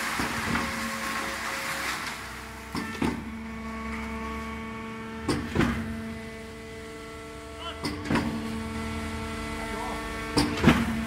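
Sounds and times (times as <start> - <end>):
concrete mixer pump humming: 0.0 - 11.0.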